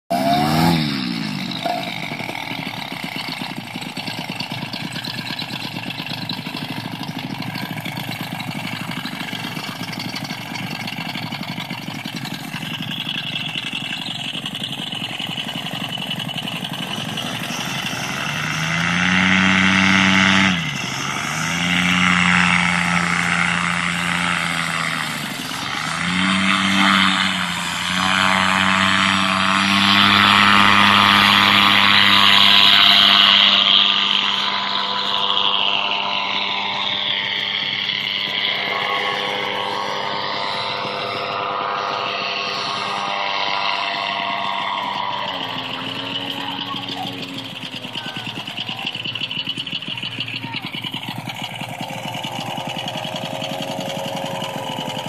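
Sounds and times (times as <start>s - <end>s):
paramotor engine revving: 0.1s - 55.0s.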